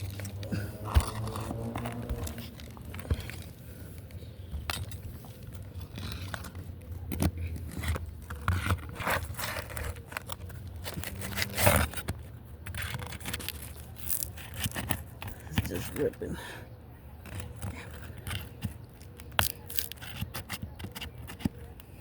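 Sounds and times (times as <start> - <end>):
roof shingles crackling and tearing: 0.0 - 16.5, 17.2 - 21.5.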